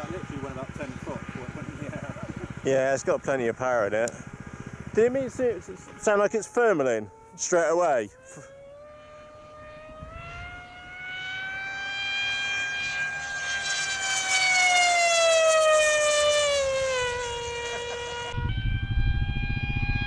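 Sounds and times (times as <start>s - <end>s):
model plane motor whining: 0.0s - 20.0s.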